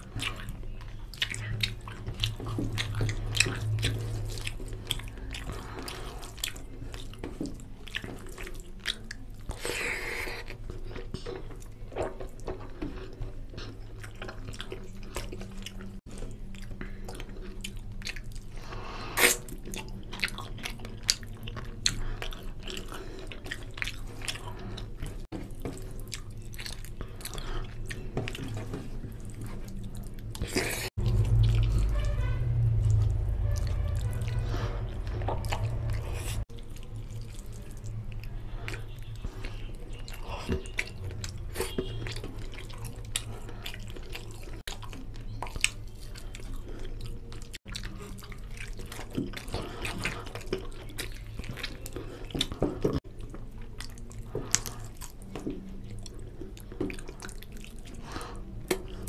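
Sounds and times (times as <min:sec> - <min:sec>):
wet chewing: 0:00.0 - 0:59.0.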